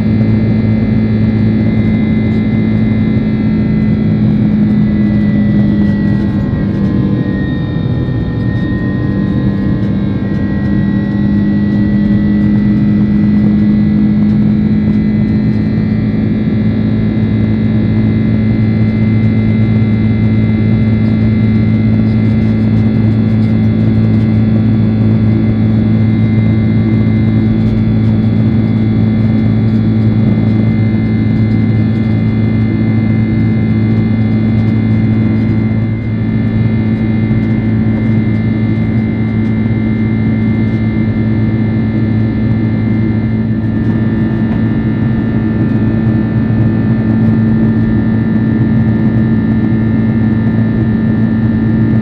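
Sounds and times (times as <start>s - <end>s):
high whine: 0.0s - 52.0s
jet engines humming in cabin: 0.0s - 52.0s.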